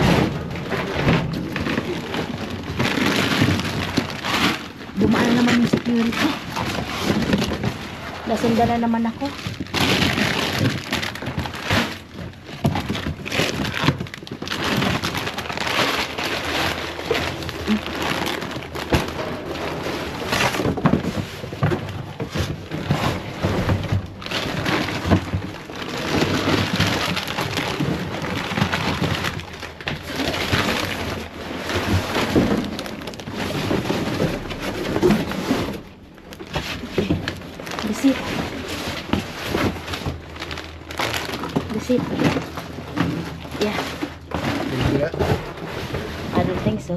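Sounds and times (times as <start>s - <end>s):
cardboard and plastic bags rustling: 0.0s - 46.9s.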